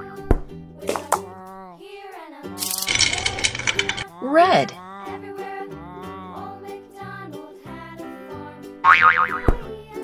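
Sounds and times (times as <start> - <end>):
cheerful children's music: 0.0 - 10.0.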